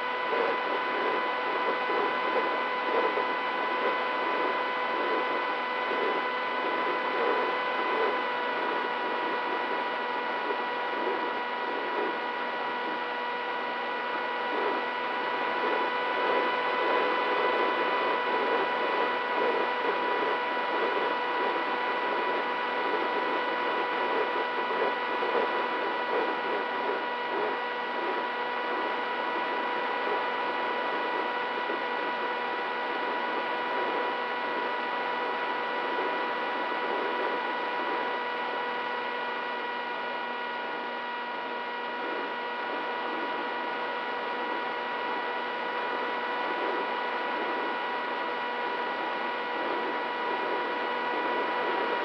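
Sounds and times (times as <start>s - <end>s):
electric motor high whine: 0.0s - 52.0s.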